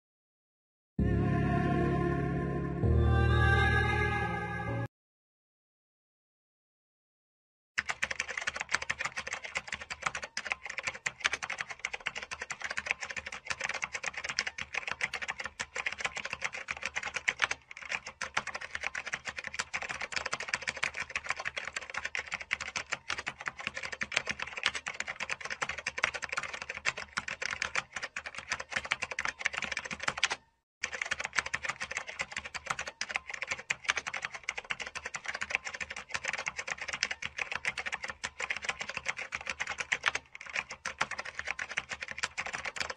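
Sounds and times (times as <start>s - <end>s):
mechanical keyboard typing: 7.8s - 42.9s.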